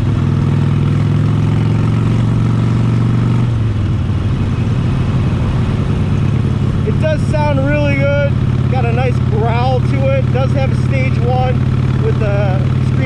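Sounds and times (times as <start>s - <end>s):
motorcycle engine growl: 0.0s - 13.0s.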